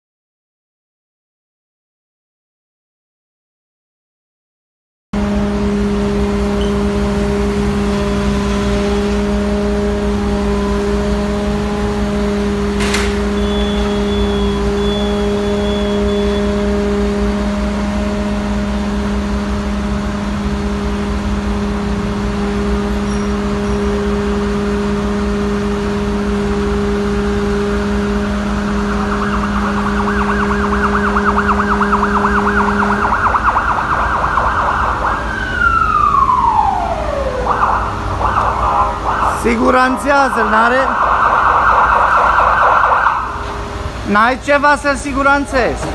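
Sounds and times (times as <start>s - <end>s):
truck machine drone: 5.2s - 45.9s.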